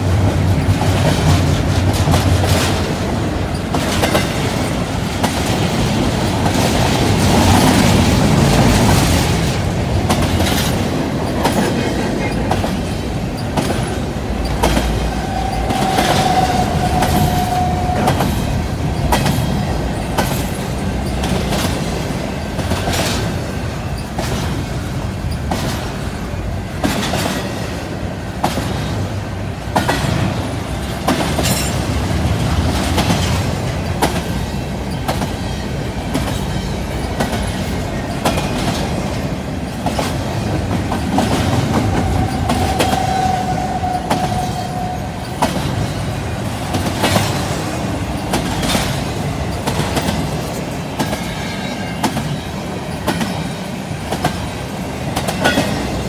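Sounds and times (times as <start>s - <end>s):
freight train rumble: 0.0s - 56.0s
train wheel clicks: 0.2s - 27.8s, 29.6s - 56.0s.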